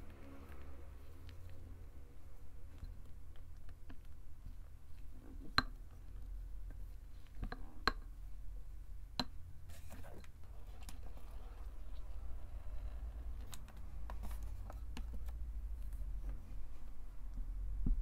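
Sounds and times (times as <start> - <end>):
spatula stirring slime: 0.0 - 16.9.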